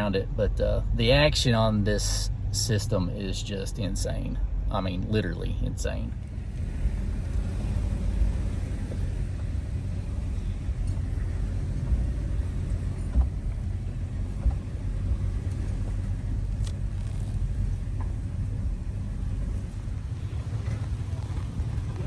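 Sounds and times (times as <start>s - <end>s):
truck engine low rumble: 0.0s - 22.0s.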